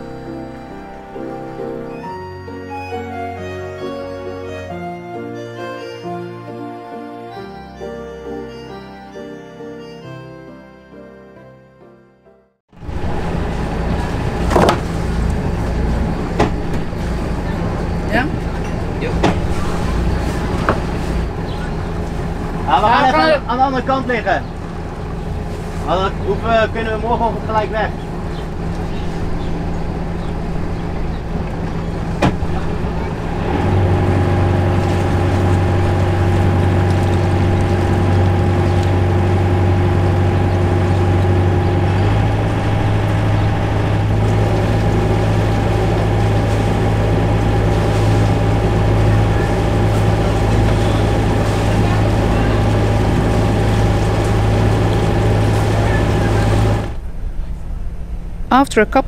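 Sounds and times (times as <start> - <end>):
boat diesel engine running: 0.0 - 11.3, 12.7 - 59.0.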